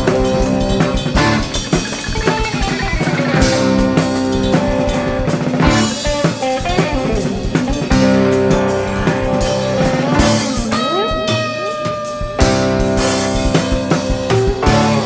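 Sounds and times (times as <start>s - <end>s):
bass: 0.0s - 15.0s
drums: 0.0s - 15.0s
electric guitars: 0.0s - 15.0s
keyboard: 0.0s - 15.0s.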